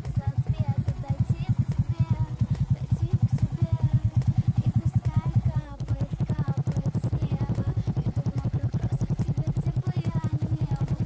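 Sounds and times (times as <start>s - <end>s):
moped engine idling: 0.0s - 11.0s.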